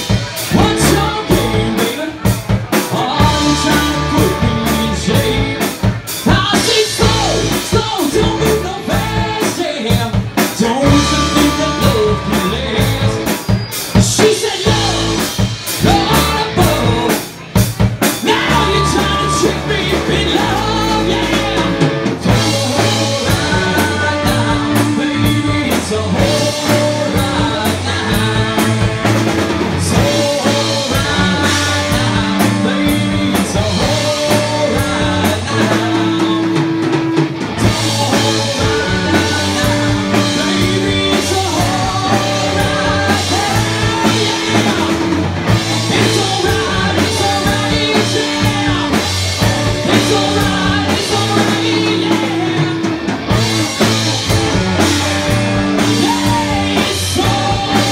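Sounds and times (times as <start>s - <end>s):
man singing: 0.0s - 57.9s
rock band playing: 0.0s - 57.9s.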